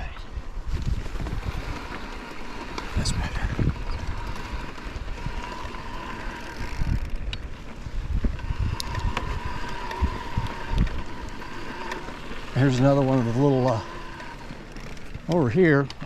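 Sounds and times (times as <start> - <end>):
wind buffeting microphone: 0.0 - 15.7
bike clicks and rattles: 0.0 - 16.0
bike rolling over dirt trail: 0.0 - 16.0.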